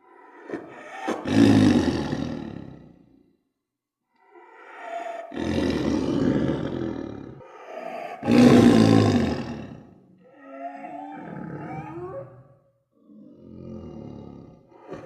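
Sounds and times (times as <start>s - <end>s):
tiger snoring: 0.0s - 3.2s, 4.4s - 12.2s, 13.0s - 15.0s.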